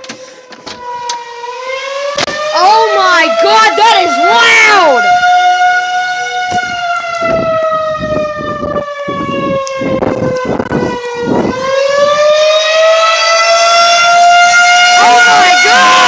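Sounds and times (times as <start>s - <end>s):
tornado warning siren wailing: 0.0s - 16.0s.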